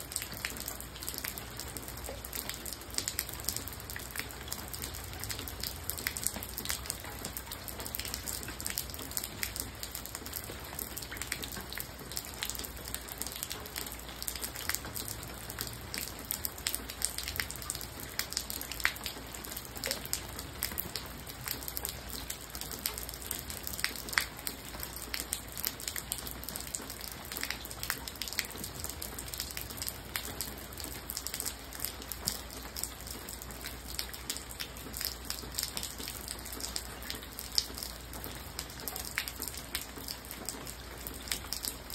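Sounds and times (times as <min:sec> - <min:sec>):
raindrops hitting puddles: 0:00.0 - 0:41.9
steady rain hiss: 0:00.0 - 0:41.9.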